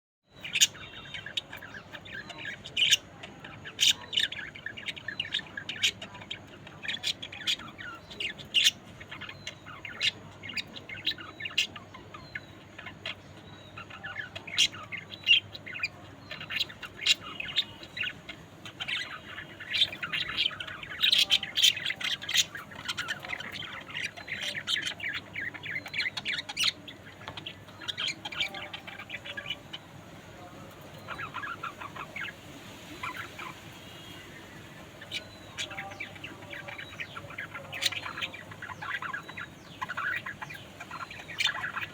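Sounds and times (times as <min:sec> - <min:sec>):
budgerigars chattering: 0:00.3 - 0:41.9.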